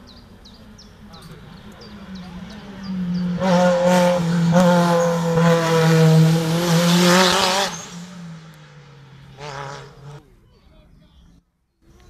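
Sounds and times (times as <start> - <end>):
race car engine: 0.0 - 10.4.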